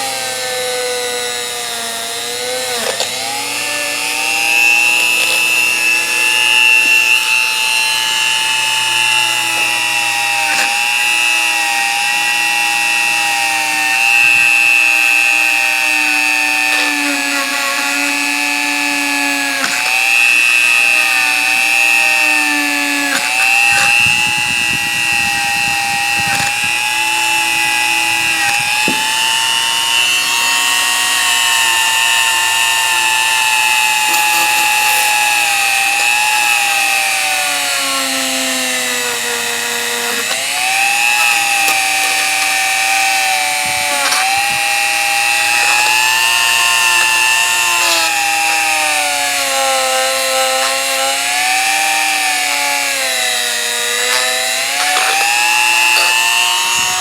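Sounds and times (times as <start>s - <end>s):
rotary tool whining on metal: 0.0s - 57.0s
rough grinding: 0.0s - 57.0s.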